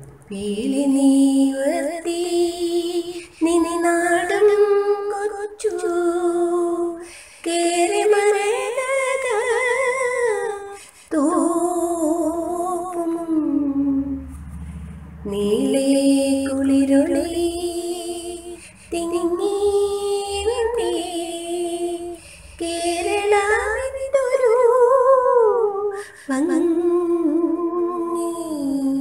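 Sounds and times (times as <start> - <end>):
woman singing: 0.3 - 14.3, 15.2 - 29.0.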